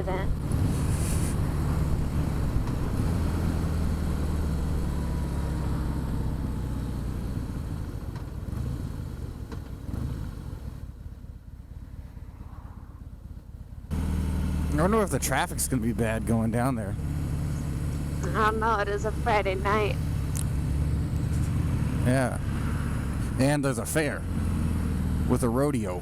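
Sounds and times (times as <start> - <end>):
motorcycle engine running: 0.0 - 12.2, 13.0 - 26.0
wind and road noise: 0.0 - 26.0.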